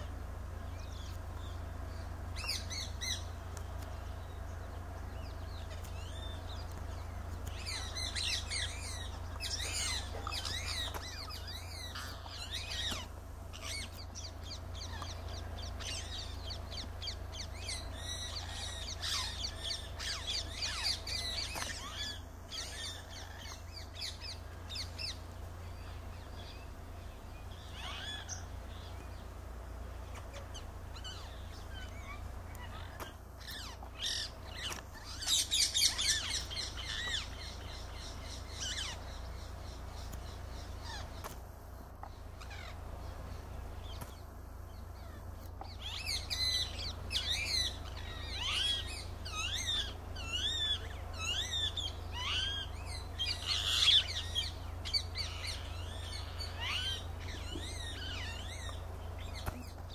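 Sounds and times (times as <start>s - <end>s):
steady low hum: 0.0s - 59.9s
parakeets screeching: 0.7s - 41.4s, 42.0s - 59.9s.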